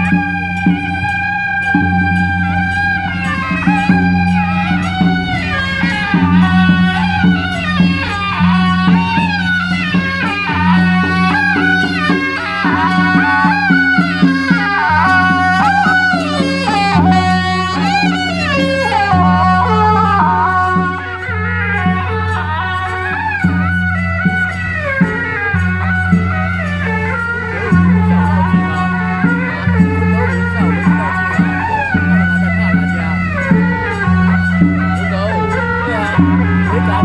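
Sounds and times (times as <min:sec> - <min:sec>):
low accompanying tones: 0:00.0 - 0:37.0
reed horn melody: 0:00.0 - 0:37.0.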